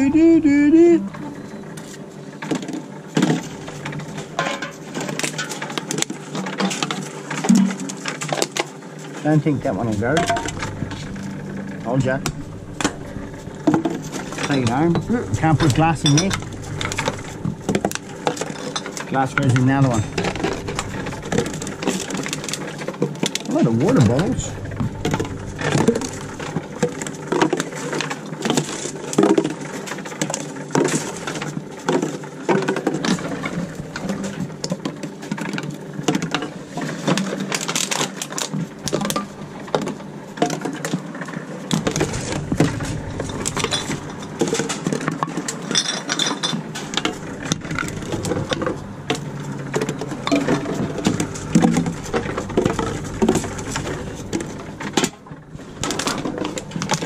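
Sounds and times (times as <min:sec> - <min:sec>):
machine hum: 0:00.0 - 0:40.5, 0:41.1 - 0:57.0.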